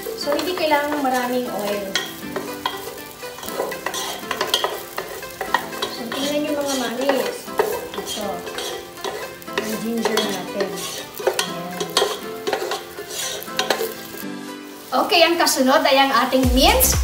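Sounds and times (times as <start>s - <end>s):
wooden spatula scraping a pot: 0.0s - 14.2s
ginger sizzling in oil: 0.0s - 16.9s.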